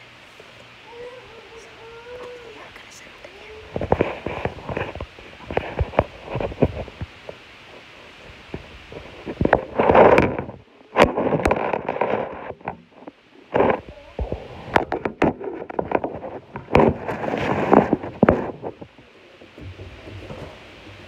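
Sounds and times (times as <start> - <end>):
rubbing on microphone: 1.0 - 20.7.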